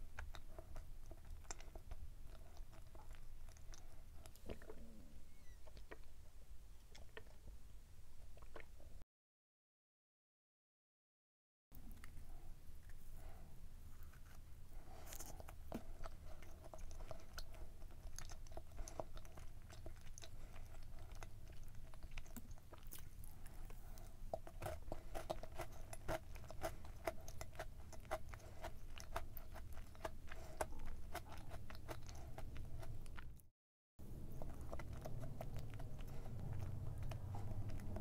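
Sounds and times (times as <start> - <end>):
chewing mouth sounds: 0.0 - 6.1, 6.8 - 7.4, 11.8 - 33.4, 34.0 - 38.0.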